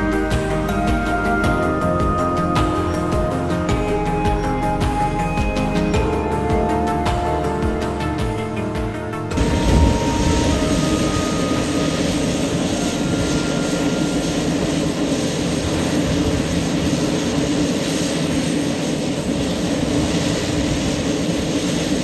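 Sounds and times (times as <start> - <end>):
turboprop engine droning: 0.0 - 22.0.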